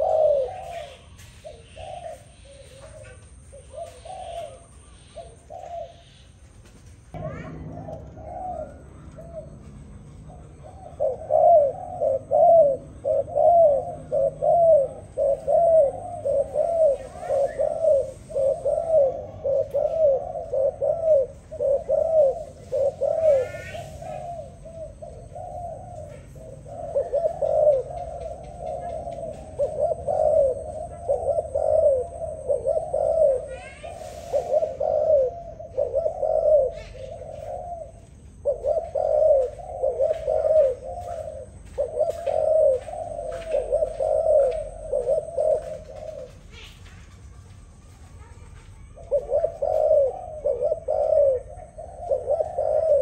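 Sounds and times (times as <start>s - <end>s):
dove cooing: 0.0s - 6.4s, 7.2s - 53.0s.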